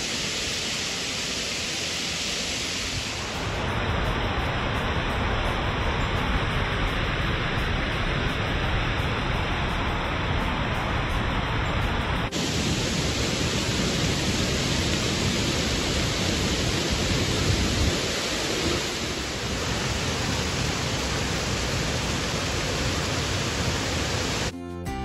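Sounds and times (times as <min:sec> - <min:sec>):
stream rushing over rocks: 0:00.0 - 0:07.2, 0:08.6 - 0:24.5.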